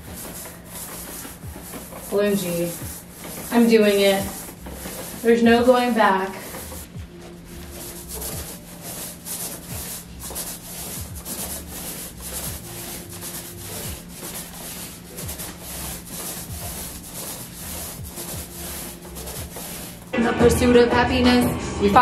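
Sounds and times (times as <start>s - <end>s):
paint roller swishing on wall: 0.0s - 20.2s.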